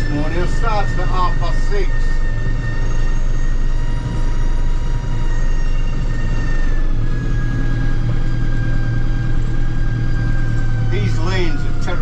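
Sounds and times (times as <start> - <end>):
high-pitched whine: 0.0 - 12.0
tractor engine drone: 0.0 - 12.0.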